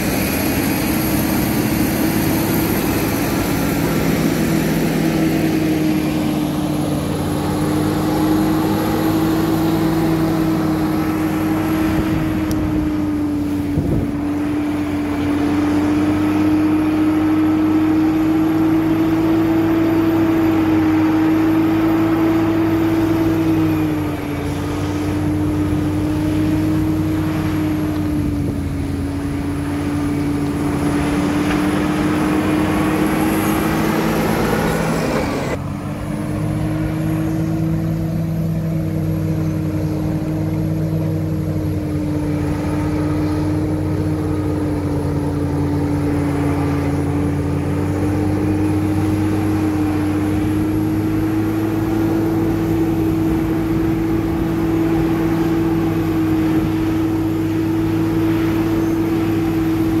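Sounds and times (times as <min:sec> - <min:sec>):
bulldozer diesel engine: 0:00.0 - 1:00.0.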